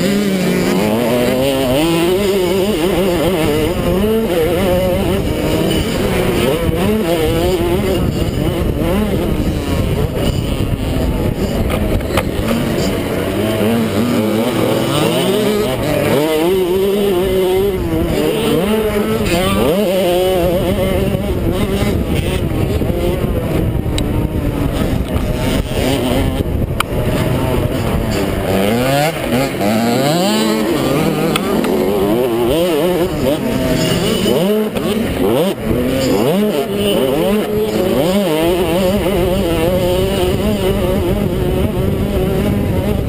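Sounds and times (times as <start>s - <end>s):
motocross bike engine revving: 0.0s - 43.0s
wind noise: 0.0s - 43.0s.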